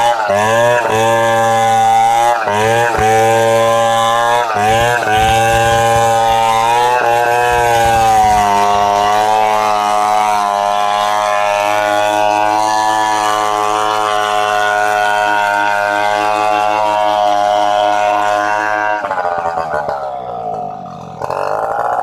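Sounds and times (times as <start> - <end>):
chainsaw running at high revs: 0.0 - 22.0.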